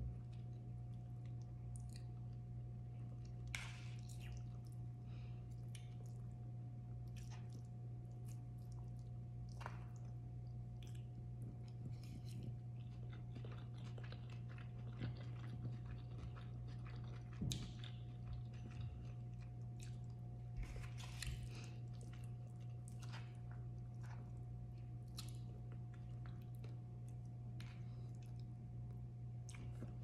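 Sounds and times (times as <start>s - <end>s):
steady low hum: 0.0s - 30.0s
wet chewing with crunches: 0.1s - 30.0s.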